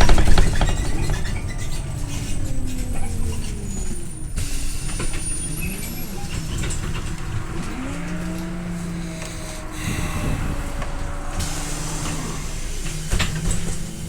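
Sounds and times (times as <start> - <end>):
bus engine rumble: 0.0 - 14.0
drivetrain whine: 0.0 - 14.0.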